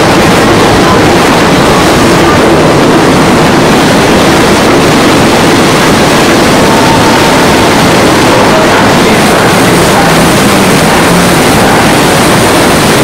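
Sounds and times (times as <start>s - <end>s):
air rushing through windows: 0.0s - 13.0s.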